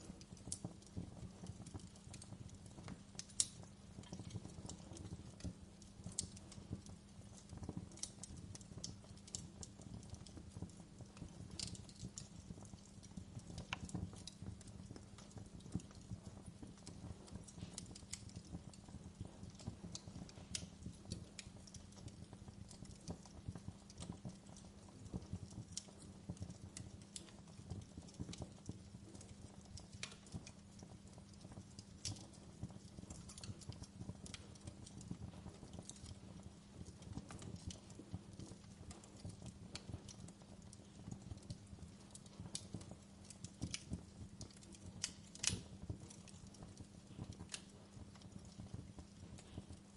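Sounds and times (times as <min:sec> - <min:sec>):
fire crackling and popping: 0:00.0 - 0:49.9
low rumble of flames: 0:00.0 - 0:49.9.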